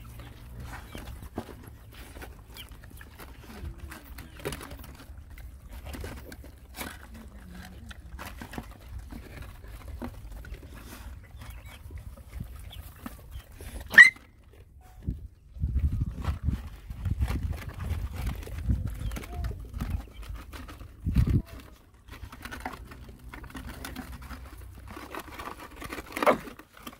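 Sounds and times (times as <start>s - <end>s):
dogs lapping and chewing: 0.0s - 26.9s.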